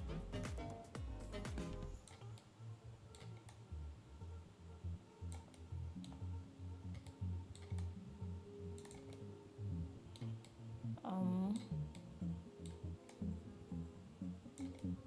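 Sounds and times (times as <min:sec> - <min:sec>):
quiet music with pulsing bass: 0:00.0 - 0:15.0.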